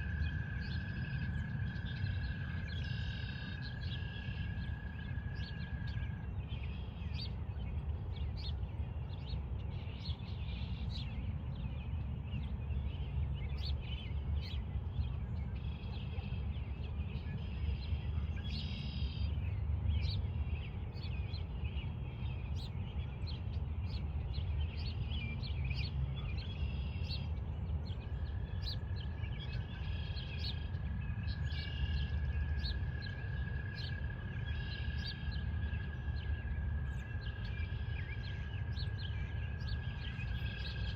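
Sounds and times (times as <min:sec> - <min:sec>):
steady low rumble: 0:00.0 - 0:40.9.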